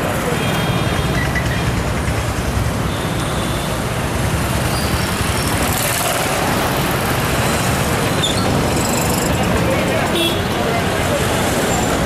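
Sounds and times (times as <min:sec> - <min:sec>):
motorcycles: 0:00.0 - 0:12.0
vehicle engines: 0:00.0 - 0:12.0.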